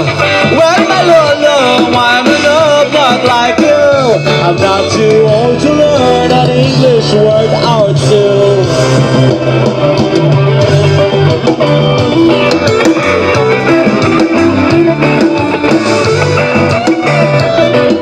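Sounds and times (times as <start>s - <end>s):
bass and drums: 0.0s - 18.0s
strummed guitar: 0.0s - 18.0s.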